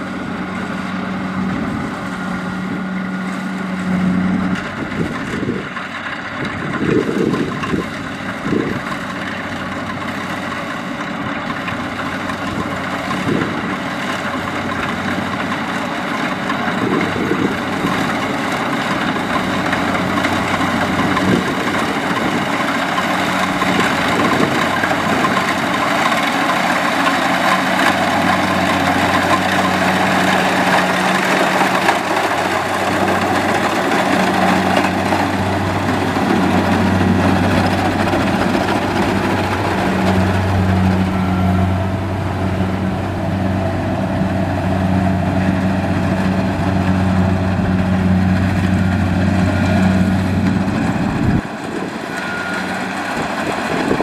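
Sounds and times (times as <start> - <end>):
combine harvester diesel engine hum: 0.0 - 54.0.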